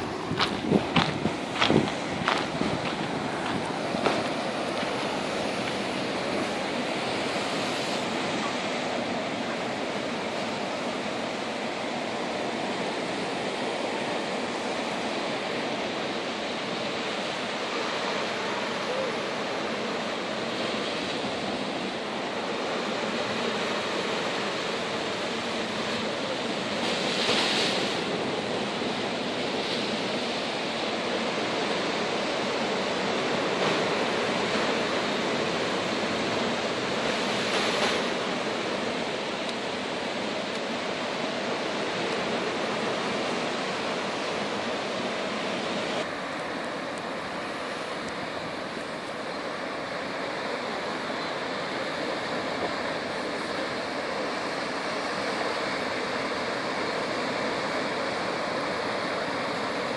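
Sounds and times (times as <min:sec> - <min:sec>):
sea surf rushing: 0:00.0 - 0:59.9.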